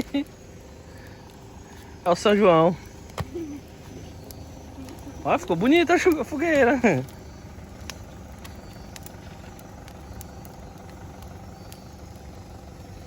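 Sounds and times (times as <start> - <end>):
campfire crackling and popping: 0.0 - 13.0
low engine hum: 0.0 - 13.0.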